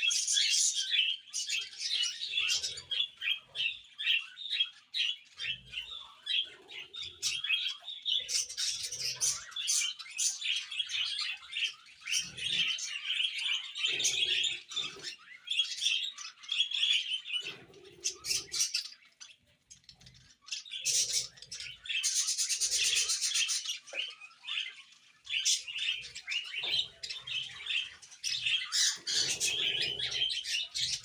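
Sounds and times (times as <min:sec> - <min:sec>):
budgerigars chattering and chirping: 0:00.0 - 0:31.0.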